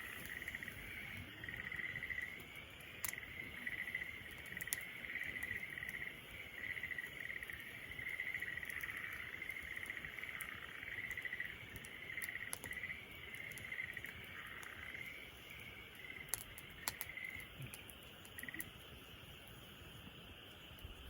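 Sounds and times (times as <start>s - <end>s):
night chorus trilling: 0.0s - 17.6s
sharp pops from fire: 0.0s - 18.8s
campfire crackling: 0.0s - 21.0s.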